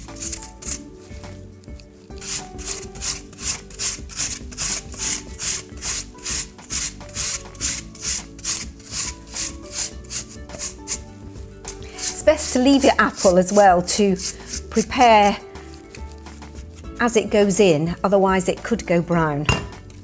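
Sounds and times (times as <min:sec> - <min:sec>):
apple grated on grater: 0:00.0 - 0:17.6
soft background music: 0:00.0 - 0:20.0.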